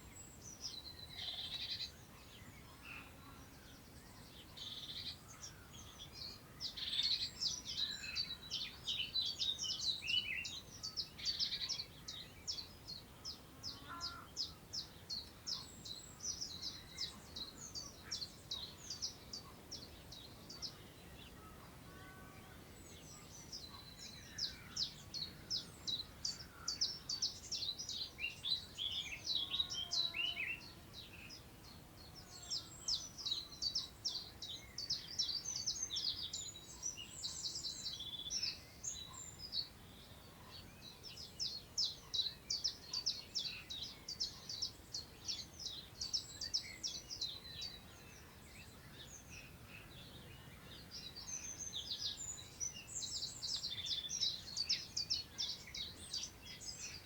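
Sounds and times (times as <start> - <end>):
birds twittering: 0.0 - 57.0
wind through long grass: 0.0 - 57.0.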